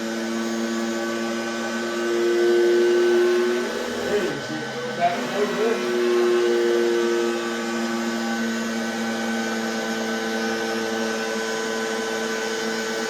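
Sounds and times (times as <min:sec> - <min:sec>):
skate sharpener motor hum: 0:00.0 - 0:13.0.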